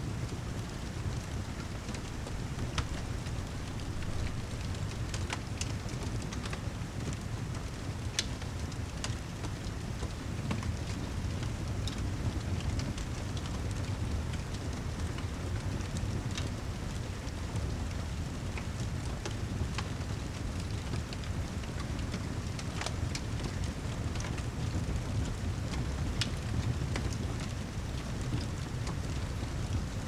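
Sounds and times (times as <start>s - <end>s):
steady rainfall: 0.0s - 30.0s
fire crackling: 0.1s - 30.0s.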